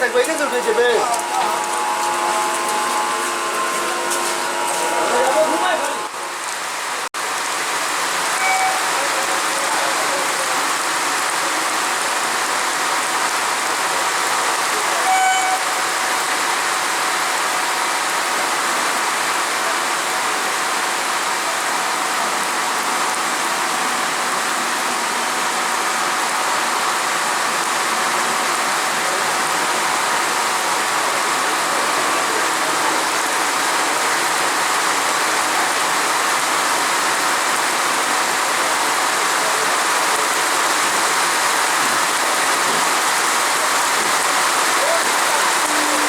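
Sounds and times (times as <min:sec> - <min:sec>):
heavy rain hissing: 0:00.0 - 0:46.0.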